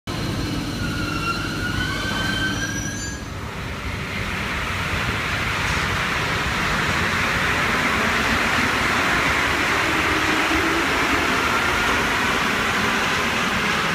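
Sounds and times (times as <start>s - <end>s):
train rumbling along platform: 0.1s - 13.9s
train whine: 0.1s - 13.9s.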